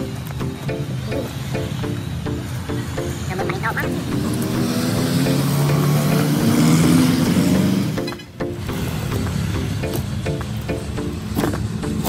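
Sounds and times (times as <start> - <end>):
music with repeated notes and bass: 0.0 - 12.0.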